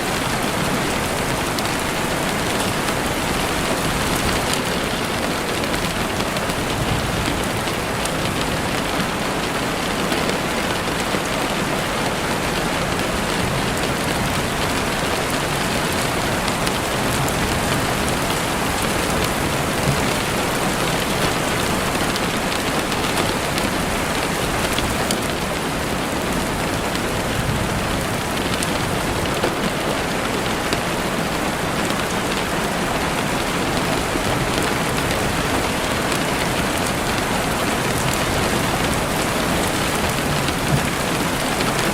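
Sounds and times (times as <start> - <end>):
rain on leaves and ground: 0.0 - 41.9.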